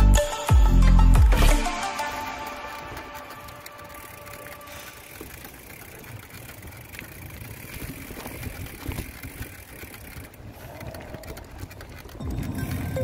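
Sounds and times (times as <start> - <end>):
mountain bike rattling over rocks: 1.8 - 13.0.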